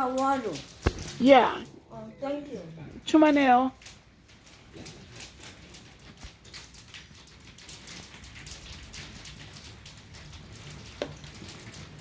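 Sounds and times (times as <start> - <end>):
rain pattering on window glass: 0.0 - 12.0.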